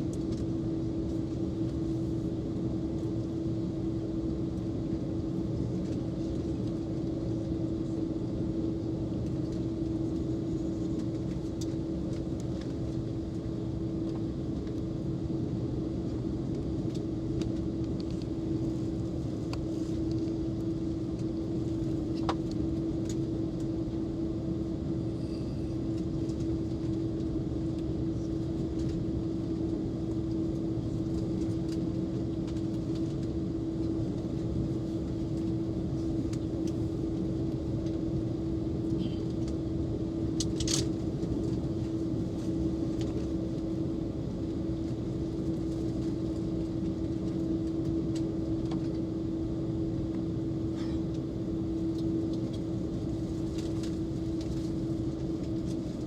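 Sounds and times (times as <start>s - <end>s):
airliner cabin rumble and hum: 0.0s - 56.0s.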